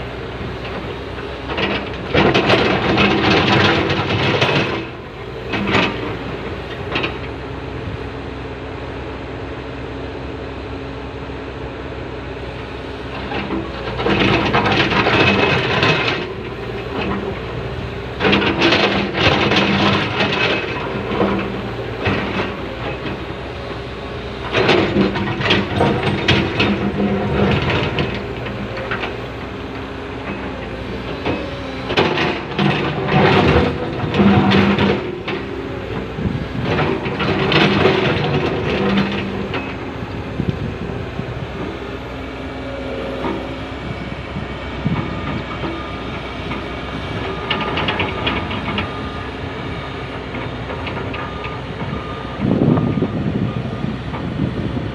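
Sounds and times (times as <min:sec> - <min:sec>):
excavator diesel engine under load: 0:00.0 - 0:54.9.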